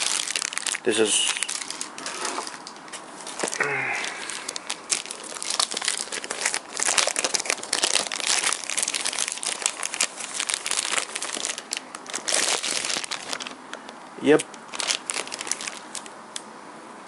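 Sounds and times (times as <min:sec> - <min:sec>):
plastic bag crinkling: 0:00.0 - 0:16.1.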